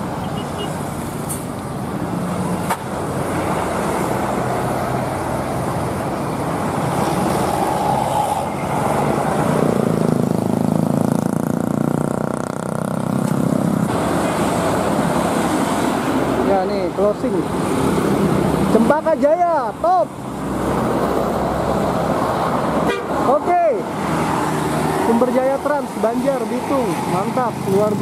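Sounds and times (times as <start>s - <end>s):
motorcycle: 0.0s - 20.0s, 23.5s - 28.0s
bus diesel engine passing: 0.0s - 28.0s
road traffic: 0.0s - 28.0s.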